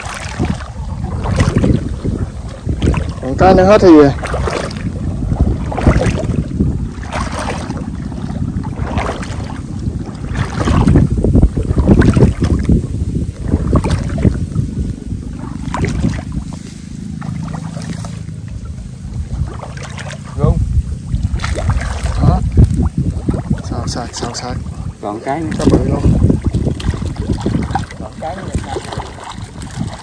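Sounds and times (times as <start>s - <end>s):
water sloshing and splashing: 0.0s - 30.0s
wind rumble on microphone: 0.0s - 30.0s.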